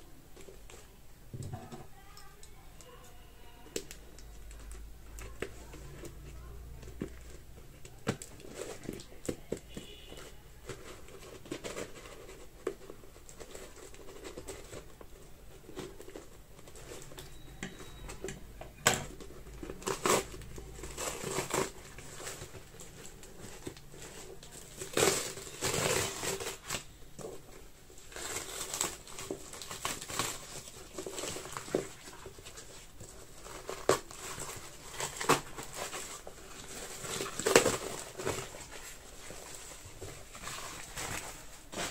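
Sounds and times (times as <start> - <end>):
plastic and paper crinkling: 0.0 - 41.9.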